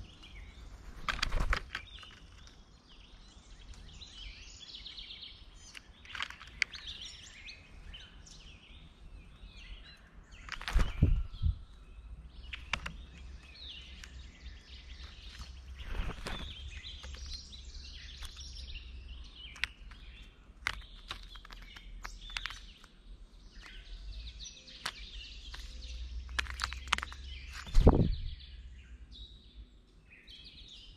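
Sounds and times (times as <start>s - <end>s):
rustle: 0.0s - 30.9s
songbirds chirping: 0.0s - 30.9s.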